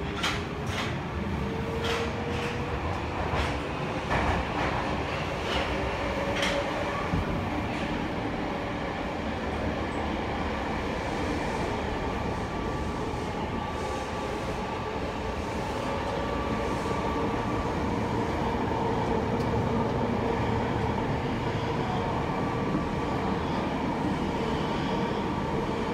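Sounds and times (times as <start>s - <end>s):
subway wheels rumbling on rails: 0.0s - 25.9s.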